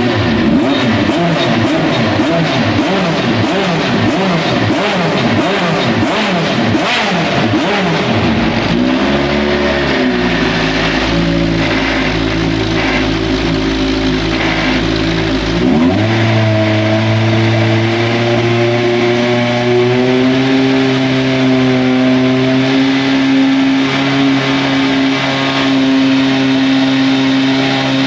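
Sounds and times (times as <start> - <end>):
racing car engine revving: 0.0 - 28.0.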